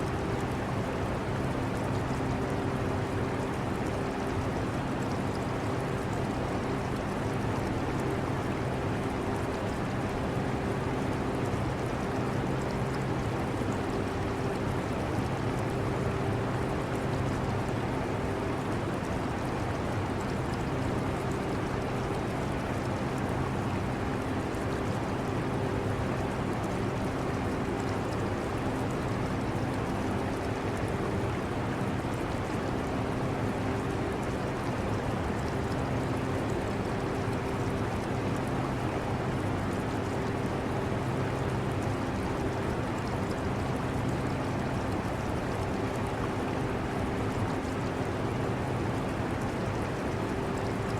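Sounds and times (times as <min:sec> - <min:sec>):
air-conditioner whooshing hum: 0:00.0 - 0:50.9
aquarium water trickling: 0:00.1 - 0:50.9.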